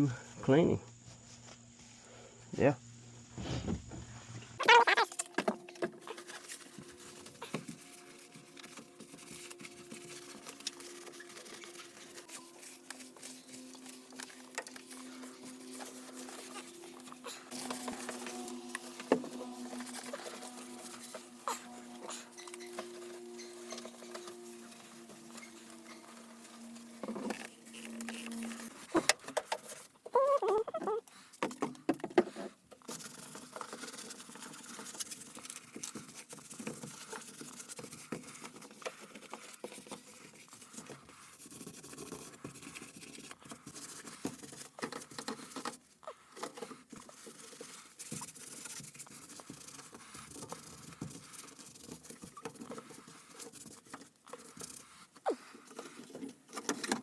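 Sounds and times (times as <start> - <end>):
rubbing and scraping: 3.4 - 30.6, 32.1 - 57.0.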